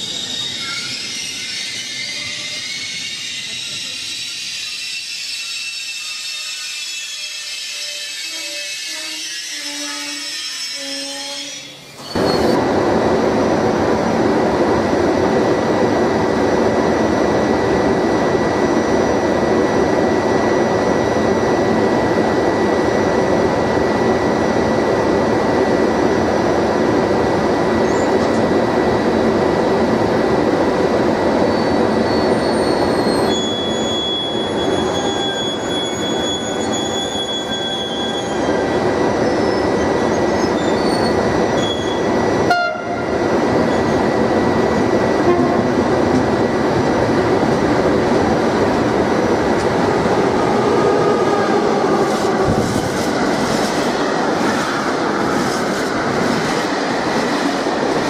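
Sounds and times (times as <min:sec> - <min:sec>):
train coaches rolling: 0:00.0 - 0:22.6, 0:27.0 - 0:58.0.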